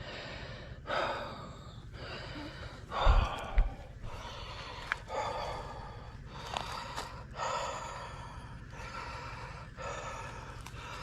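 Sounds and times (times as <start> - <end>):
person breathing heavily: 0.0 - 11.0.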